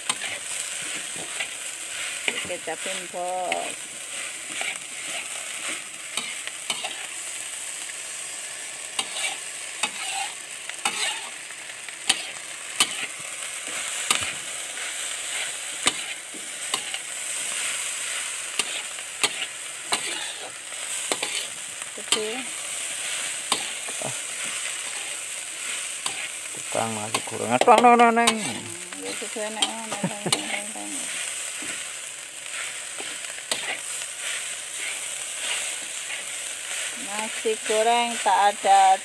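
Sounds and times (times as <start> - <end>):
metal spatula scraping a pan: 0.0 - 7.2, 8.9 - 11.4, 12.0 - 39.0
fried rice sizzling in a wok: 0.0 - 39.0.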